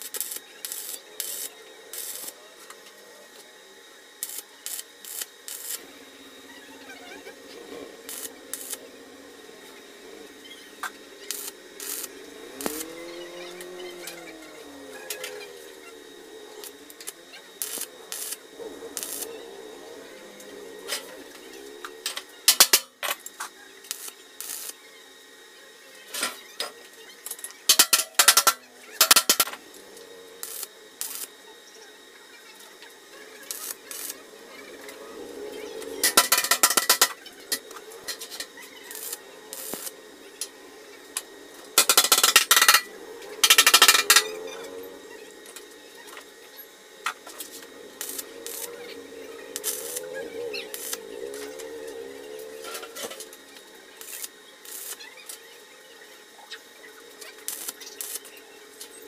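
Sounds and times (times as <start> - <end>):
arc welding crackling: 0.0 - 59.0.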